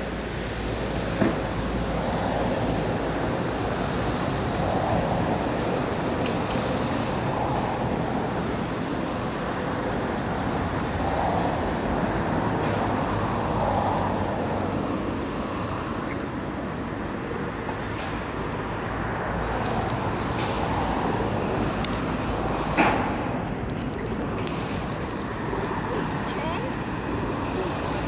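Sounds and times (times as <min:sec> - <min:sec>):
city road traffic rumble: 0:00.0 - 0:28.0.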